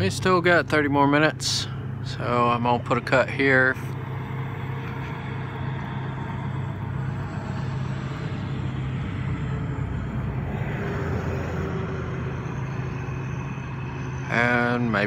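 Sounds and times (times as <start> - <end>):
motor humming with rushing noise: 0.0 - 15.0.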